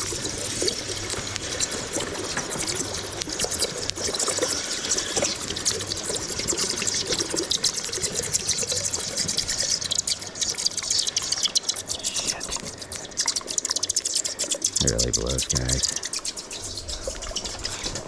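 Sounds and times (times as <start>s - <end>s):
molten metal hissing and crackling: 0.0s - 18.0s.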